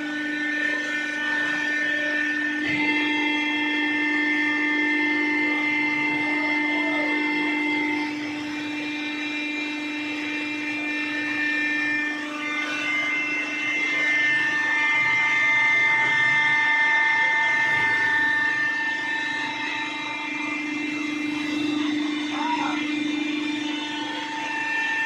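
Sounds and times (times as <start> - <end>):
hydraulic pump whine: 0.0 - 25.0.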